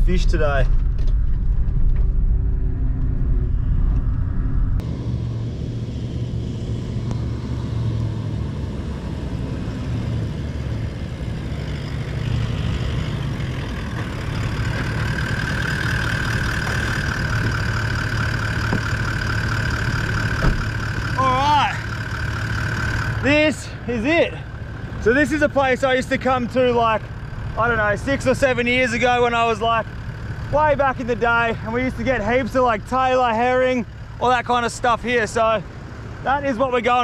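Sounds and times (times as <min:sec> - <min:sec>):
four-wheel drive engine running: 0:00.0 - 0:37.0
steady high whine: 0:00.0 - 0:37.0.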